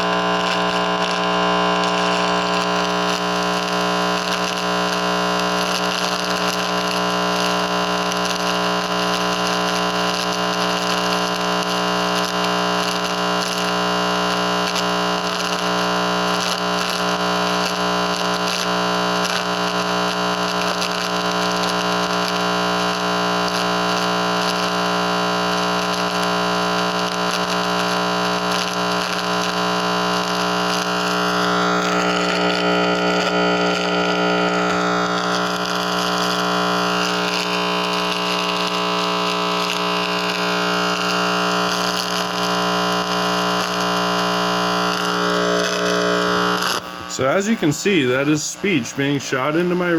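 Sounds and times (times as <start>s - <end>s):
receiver buzzing static with tones: 0.0s - 49.9s.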